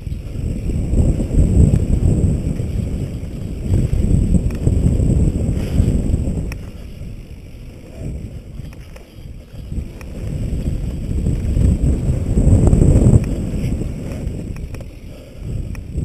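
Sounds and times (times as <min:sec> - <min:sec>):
bike tyres rumbling on dirt: 0:00.0 - 0:16.0
wind buffeting microphone: 0:00.0 - 0:16.0.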